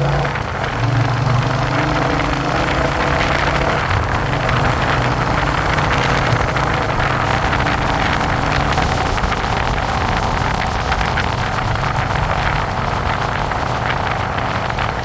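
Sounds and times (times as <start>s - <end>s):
motorcycle engine running: 0.0s - 15.0s
rushing noise: 0.0s - 15.0s.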